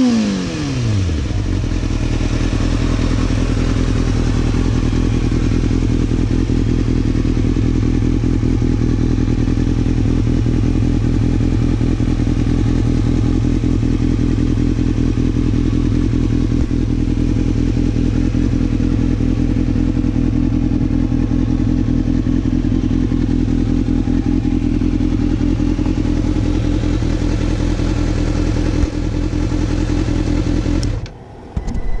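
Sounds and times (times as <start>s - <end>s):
motorcycle engine idling: 0.0s - 31.1s.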